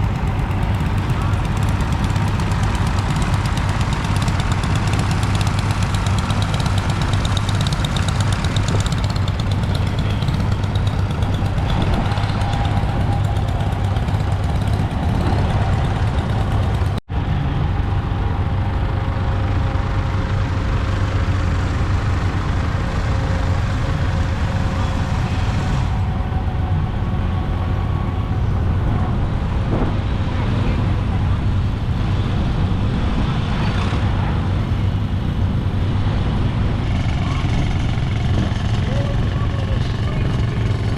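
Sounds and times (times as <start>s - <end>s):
antique engines running: 0.0s - 40.9s.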